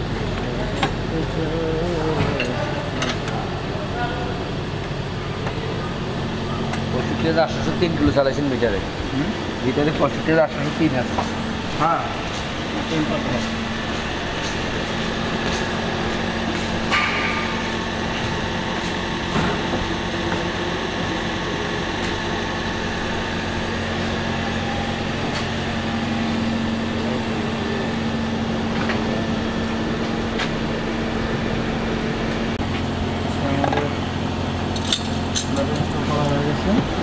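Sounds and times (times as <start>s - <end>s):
car engine hum: 0.0s - 37.0s.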